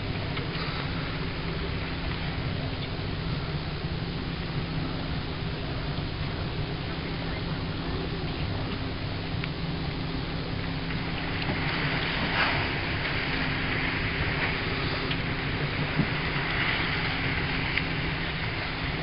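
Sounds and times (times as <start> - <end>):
boat engine running: 0.0 - 19.0
water noise: 0.0 - 19.0
wind: 0.0 - 19.0.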